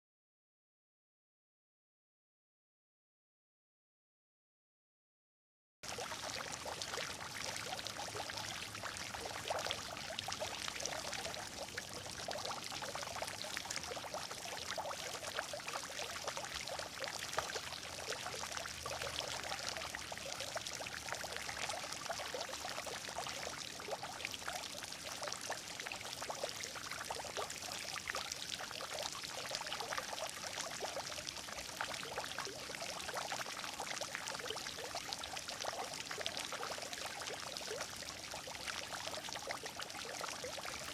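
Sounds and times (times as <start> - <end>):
water gurgling and splashing: 5.9 - 40.9.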